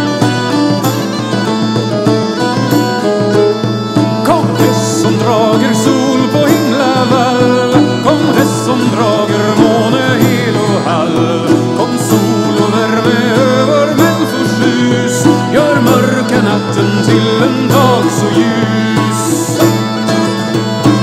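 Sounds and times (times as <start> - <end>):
bagpipe melody with drone: 0.0 - 21.0
bouzouki: 0.0 - 21.0
frame drum: 0.0 - 21.0.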